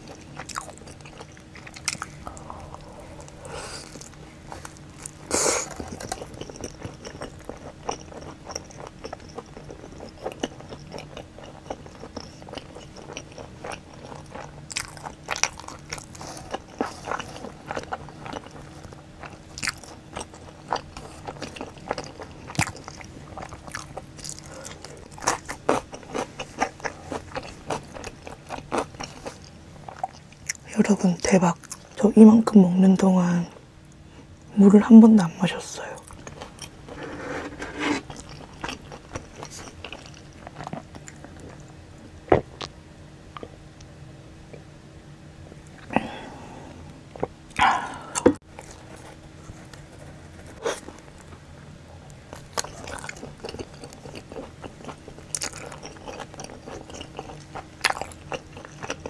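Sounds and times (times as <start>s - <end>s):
biting and chewing food: 0.0s - 30.6s, 36.0s - 42.7s, 48.4s - 51.4s, 52.0s - 59.0s.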